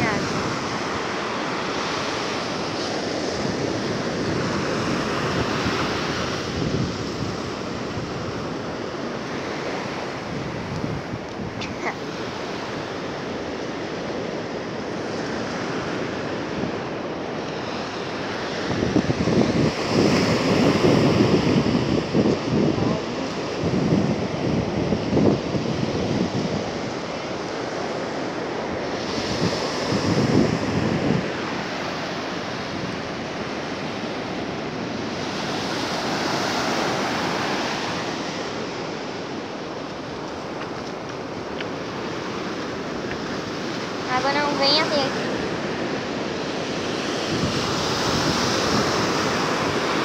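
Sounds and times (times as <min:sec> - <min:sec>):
ocean surf washing: 0:00.0 - 0:50.0
wind gusting on microphone: 0:00.0 - 0:50.0.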